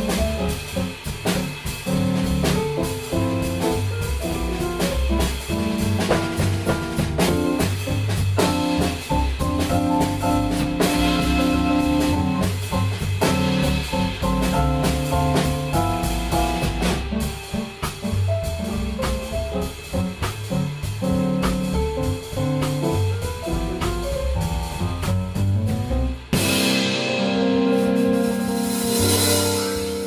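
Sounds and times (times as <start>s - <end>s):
double bass: 0.0s - 30.0s
drum kit: 0.0s - 30.0s
stage piano: 0.0s - 30.0s.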